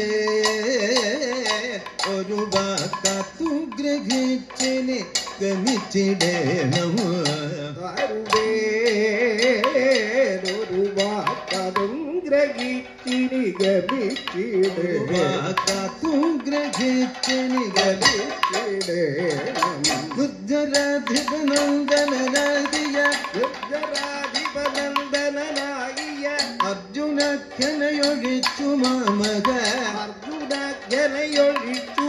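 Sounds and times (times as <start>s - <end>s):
drum strokes: 0.0s - 32.0s
metal percussion clashing: 0.0s - 32.0s.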